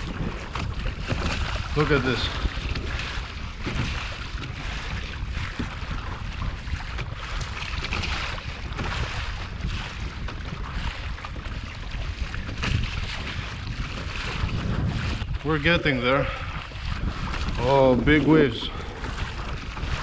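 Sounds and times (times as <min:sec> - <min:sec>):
water splashing against kayak: 0:00.0 - 0:20.0
wind buffeting microphone: 0:00.0 - 0:20.0.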